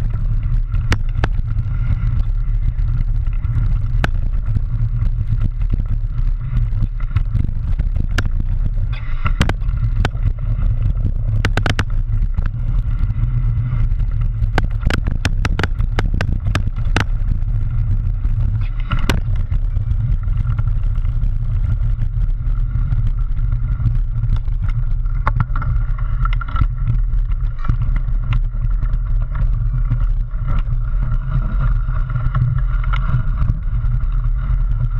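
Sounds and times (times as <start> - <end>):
bike clicks and clatters: 0.0 - 34.9
wind and tyre rumble: 0.0 - 34.9.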